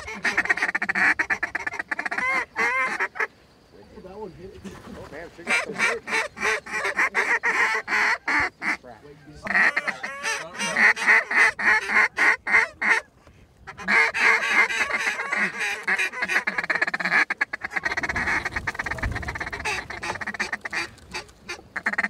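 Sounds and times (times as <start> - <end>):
goose honking and clucking: 0.0 - 3.3, 5.4 - 22.0.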